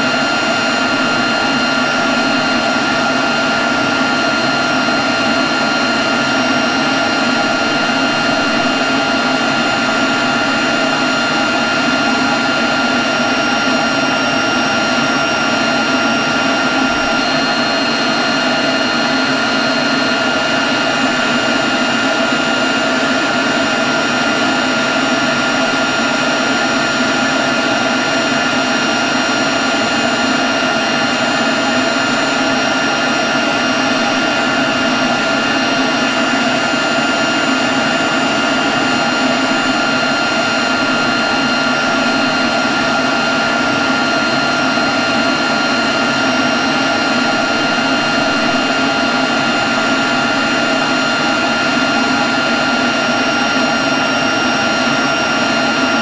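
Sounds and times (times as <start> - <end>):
leaf blower running: 0.0 - 56.0.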